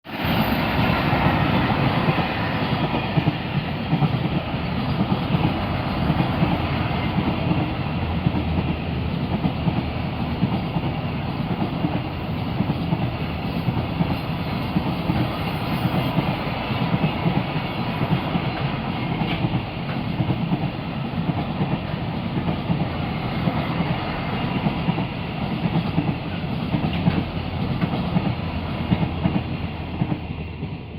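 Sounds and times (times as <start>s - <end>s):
freight train wagons rumbling and clacking: 0.1s - 30.9s.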